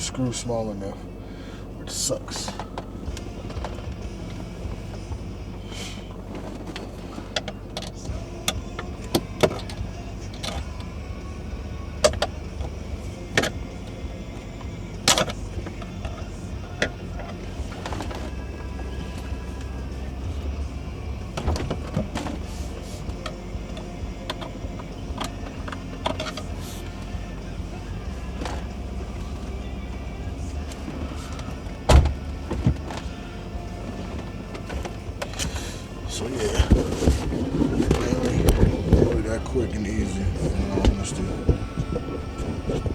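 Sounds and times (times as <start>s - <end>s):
steady low hum: 0.0s - 42.9s
clicks and knocks of car parts: 2.3s - 11.2s, 12.0s - 42.9s.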